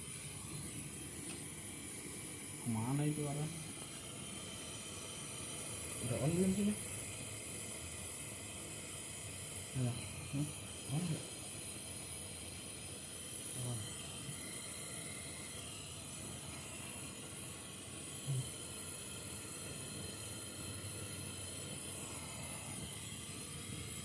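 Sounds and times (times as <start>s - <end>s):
gas hissing through pipes: 0.0s - 24.0s.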